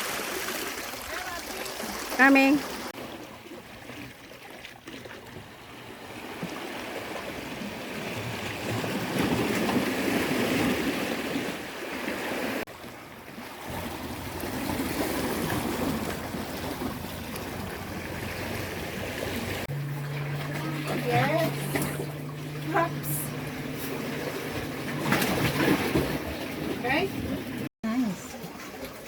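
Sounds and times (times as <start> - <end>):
sea water washing and splashing: 0.0 - 29.0.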